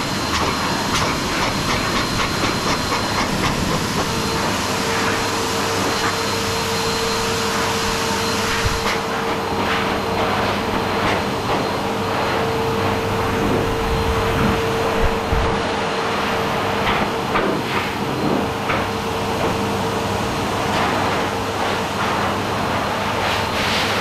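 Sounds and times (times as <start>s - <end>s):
dog dryer blowing air: 0.0s - 24.0s.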